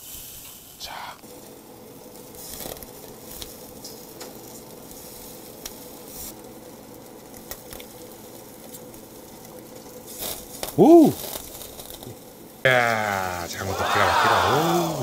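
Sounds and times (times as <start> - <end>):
faint steady hum: 0.0 - 15.0
fish sizzling on a grill: 0.0 - 15.0.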